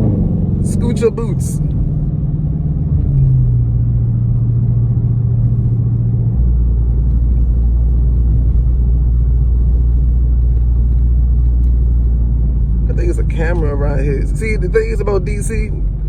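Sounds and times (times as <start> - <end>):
car engine drone in cabin: 0.0 - 16.0.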